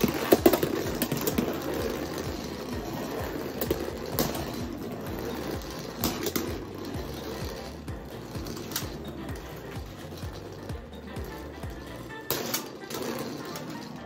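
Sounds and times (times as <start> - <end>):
background music: 0.0 - 14.0
spinning tops clicking together: 0.0 - 14.0
spinning tops whirring: 0.0 - 14.0.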